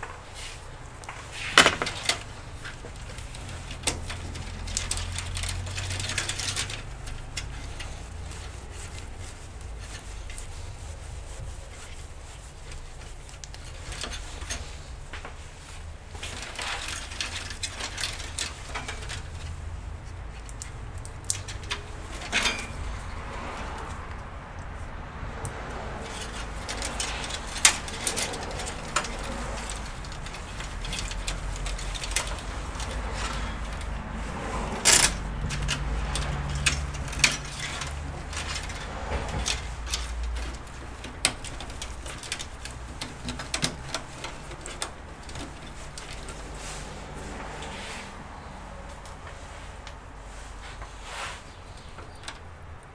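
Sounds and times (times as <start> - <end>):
cables and connectors rustling: 0.0 - 52.9.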